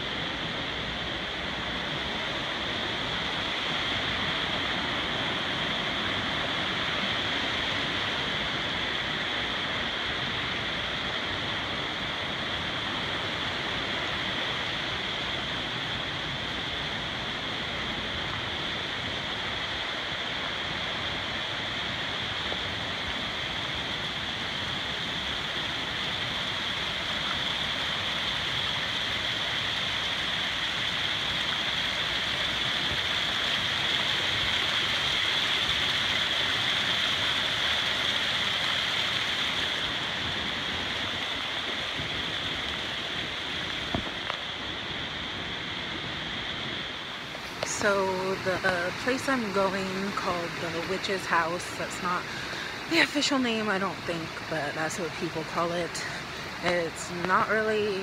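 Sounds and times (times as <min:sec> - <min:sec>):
creek running over rocks: 0:00.0 - 0:58.0.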